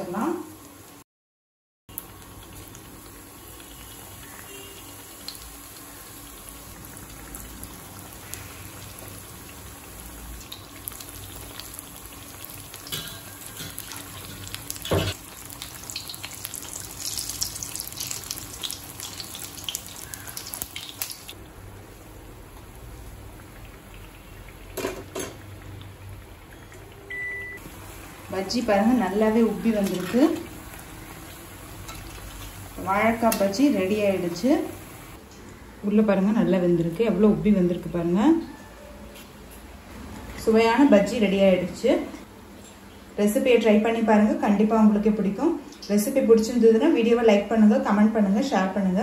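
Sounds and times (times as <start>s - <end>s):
batter deep-frying in hot oil: 1.9s - 38.2s, 40.3s - 49.0s.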